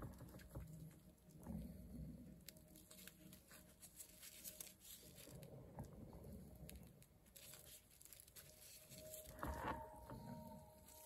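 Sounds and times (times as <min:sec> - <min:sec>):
gloved hands rustling: 0:00.2 - 0:11.0.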